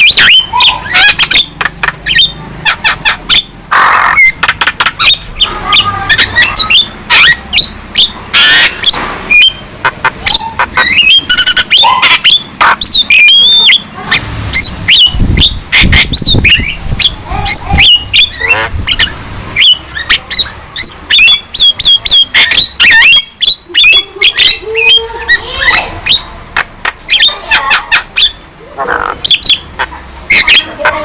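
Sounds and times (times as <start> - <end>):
myna bird whistles and squawks: 0.0 - 26.3, 27.1 - 31.0.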